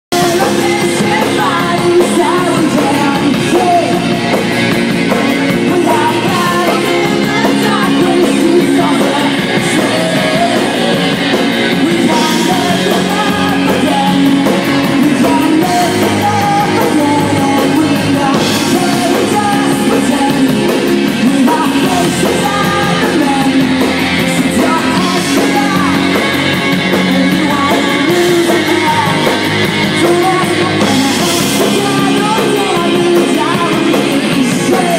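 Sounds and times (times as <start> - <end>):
man singing into a microphone: 0.1 - 4.4, 5.1 - 34.9
loud rock band playing: 0.1 - 34.9.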